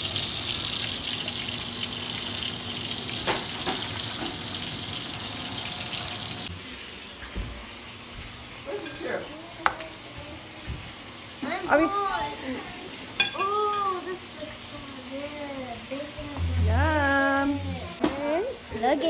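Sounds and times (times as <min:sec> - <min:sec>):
sausages sizzling in oil: 0:00.0 - 0:19.0.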